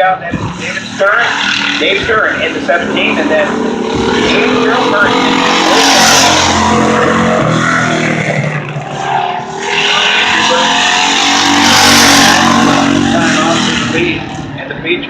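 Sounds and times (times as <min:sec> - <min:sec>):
race car engines at full throttle: 0:00.0 - 0:15.0.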